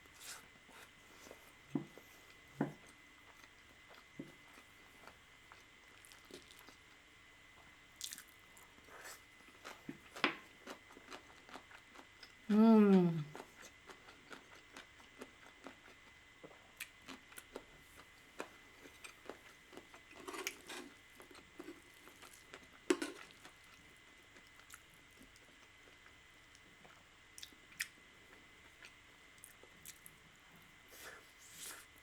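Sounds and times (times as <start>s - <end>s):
person chewing food: 0.1s - 7.0s, 8.0s - 12.4s, 13.2s - 30.2s.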